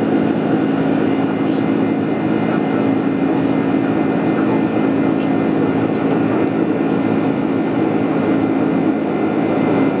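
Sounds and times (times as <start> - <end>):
airplane cabin engine noise: 0.0 - 10.0
constant low hum: 0.0 - 10.0.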